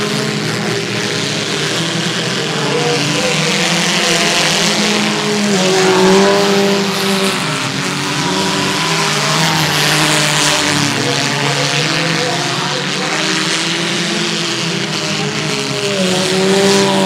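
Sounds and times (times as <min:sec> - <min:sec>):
car engines racing: 0:00.0 - 0:17.0.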